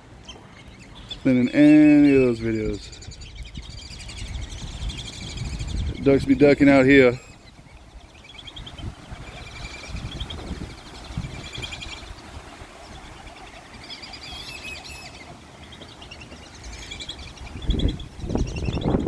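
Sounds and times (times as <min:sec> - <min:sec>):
birds chirping and whistling: 0:00.2 - 0:19.0.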